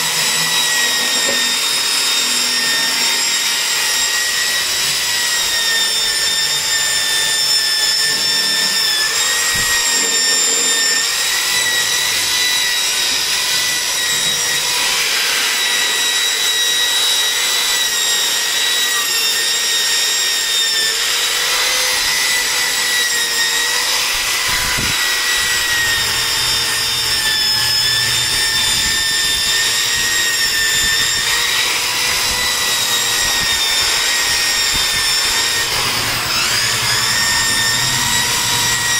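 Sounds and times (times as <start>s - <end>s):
electric drill motor whining: 0.0s - 38.9s.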